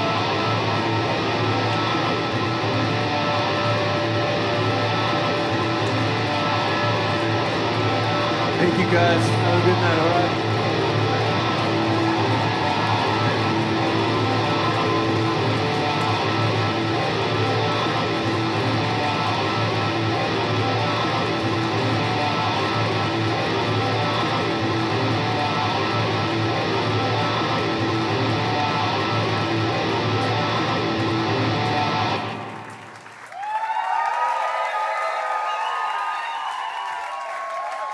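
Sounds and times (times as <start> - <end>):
electric guitars droning: 0.0 - 33.1.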